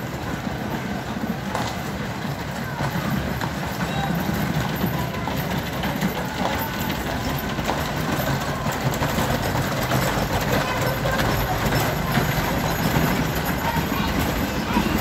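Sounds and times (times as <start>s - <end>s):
horse hooves clopping: 0.0s - 15.0s
wagon wheels rattling over cobblestones: 0.0s - 15.0s.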